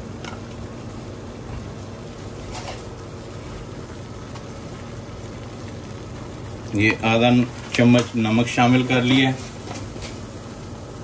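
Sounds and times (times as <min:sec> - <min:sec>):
water boiling in a saucepan: 0:00.0 - 0:11.0.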